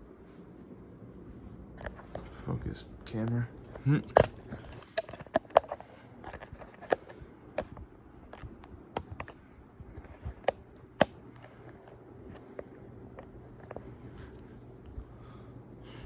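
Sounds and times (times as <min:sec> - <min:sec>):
ceiling fan motor humming: 0:00.0 - 0:16.0.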